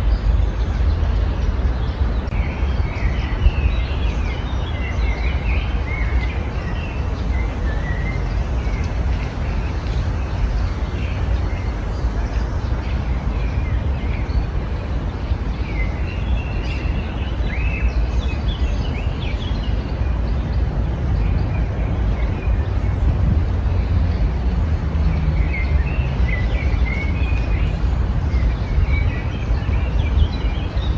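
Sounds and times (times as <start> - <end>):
songbirds chirping and calling: 0.0 - 30.9
steady low rumble: 0.0 - 30.9.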